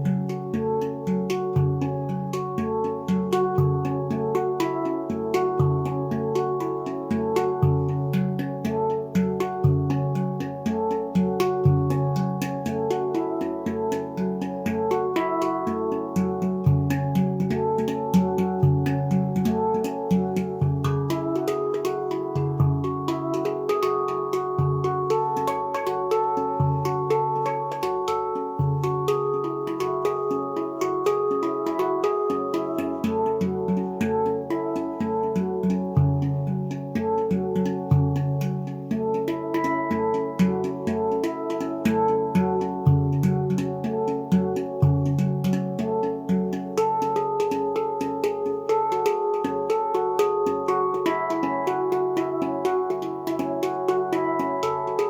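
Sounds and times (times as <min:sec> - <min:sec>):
handpan ringing notes: 0:00.0 - 0:55.0.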